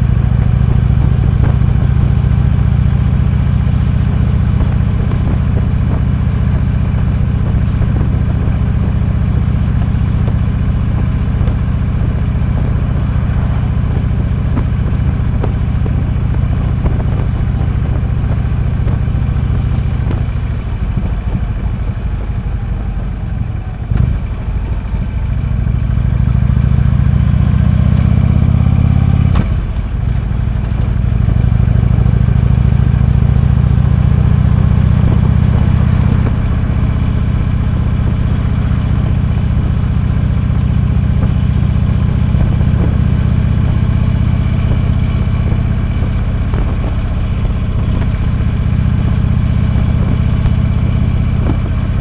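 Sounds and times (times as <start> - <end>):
motorcycle engine rumbling: 0.0 - 52.0.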